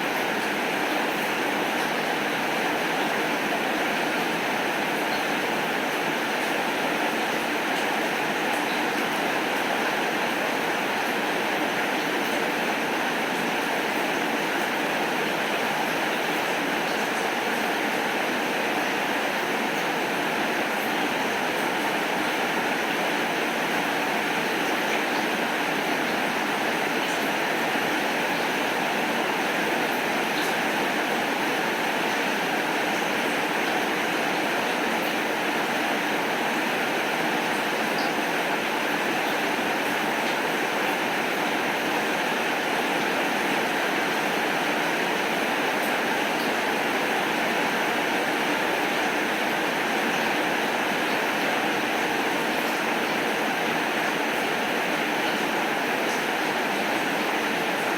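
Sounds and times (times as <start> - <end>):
steady rainfall: 0.0 - 57.9.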